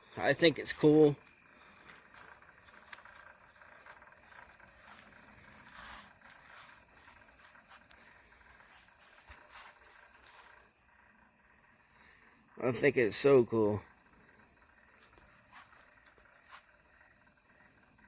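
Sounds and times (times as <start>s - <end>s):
frogs croaking: 0.0s - 18.0s
insects trilling: 0.0s - 18.0s.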